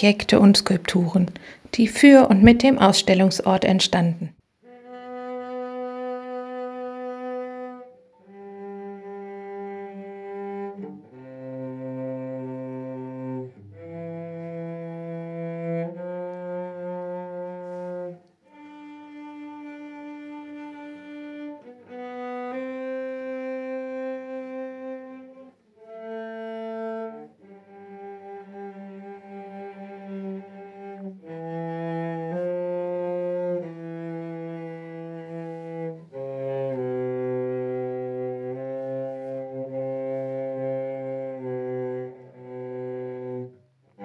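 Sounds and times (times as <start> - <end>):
slow bowed string music: 4.6 - 44.0.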